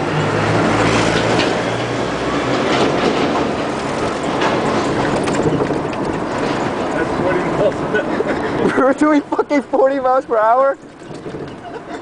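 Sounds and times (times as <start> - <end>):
wind and road noise: 0.0 - 12.0
cart body rattling and clicking: 0.8 - 9.2, 10.4 - 12.0.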